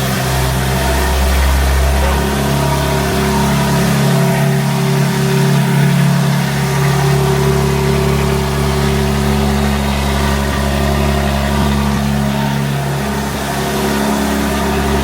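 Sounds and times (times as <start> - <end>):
car engine idling loudly: 0.0 - 15.0.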